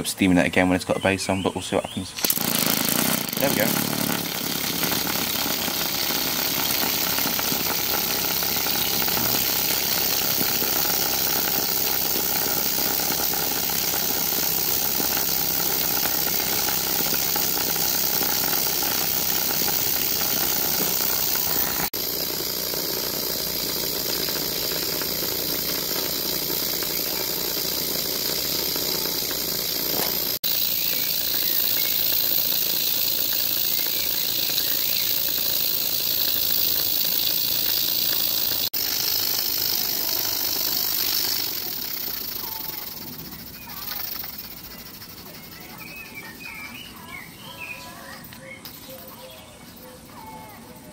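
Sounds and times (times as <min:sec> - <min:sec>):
model steam engine running: 0:02.2 - 0:48.2.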